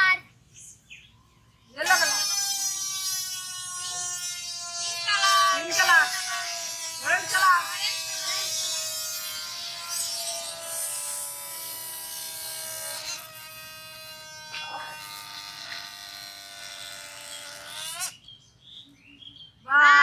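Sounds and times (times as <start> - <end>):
balloons deflating buzz and hiss: 1.8 - 18.2.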